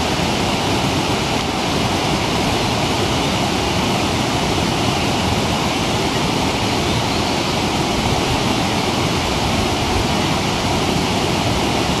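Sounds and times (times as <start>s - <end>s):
white water rushing: 0.0s - 12.0s.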